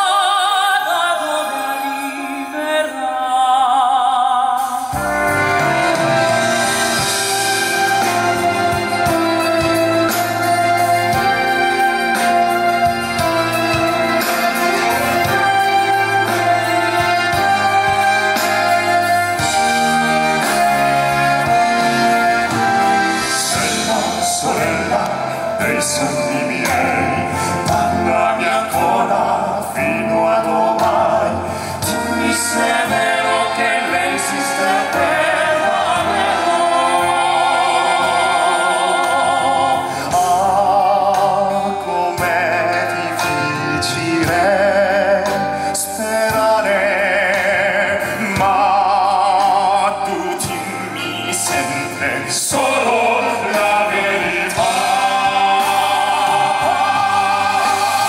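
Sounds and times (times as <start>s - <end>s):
male vocal group singing operatically: 0.0s - 58.0s
musical accompaniment: 0.0s - 58.0s.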